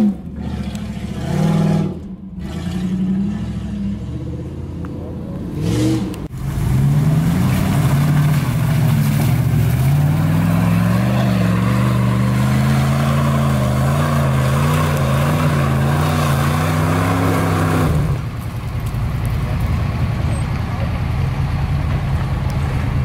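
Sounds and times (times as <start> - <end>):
engine pulling under load: 0.0 - 23.0
rough engine rumble: 0.0 - 23.0.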